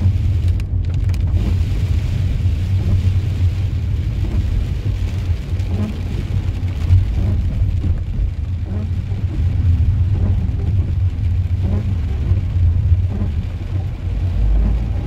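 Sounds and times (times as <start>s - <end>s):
car cabin low rumble: 0.0s - 15.0s
rain on windscreen: 0.0s - 15.0s.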